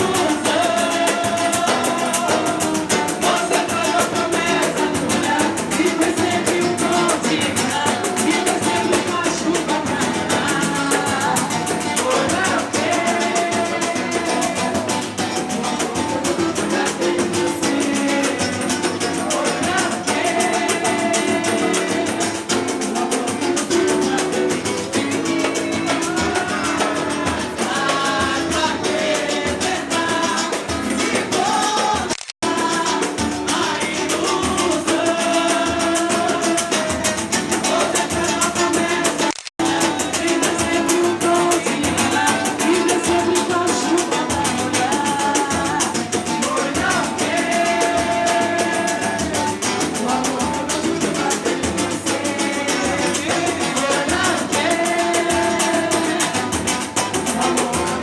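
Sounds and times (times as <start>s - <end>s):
percussion beat: 0.0s - 58.0s
person singing: 0.0s - 58.0s.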